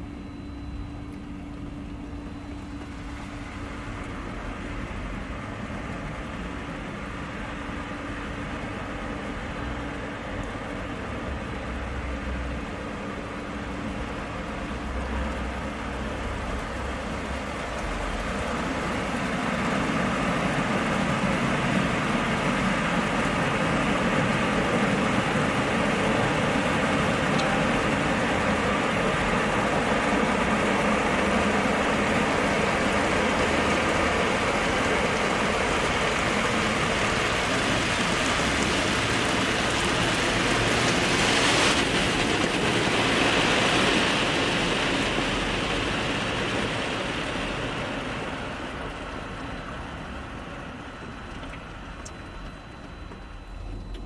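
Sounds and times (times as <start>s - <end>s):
car wash machine rumble: 0.0s - 54.0s
water spraying on car body: 1.9s - 52.0s.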